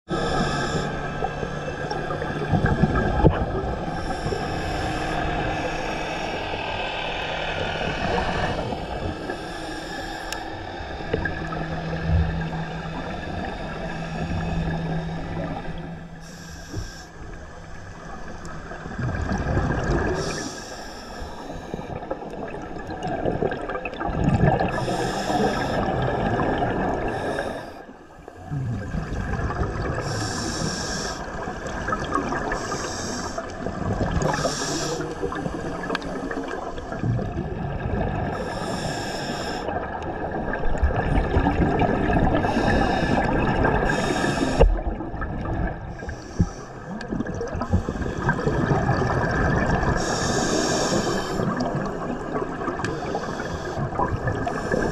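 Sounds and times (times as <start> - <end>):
diver breathing through regulator: 0.1 - 22.2, 24.5 - 37.5, 38.2 - 40.5, 41.2 - 45.0, 45.7 - 54.9
underwater bubbling: 0.1 - 54.9.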